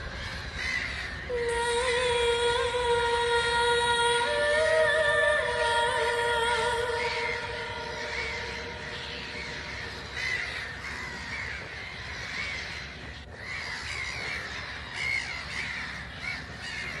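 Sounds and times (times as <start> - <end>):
seagulls calling: 0.0 - 17.0.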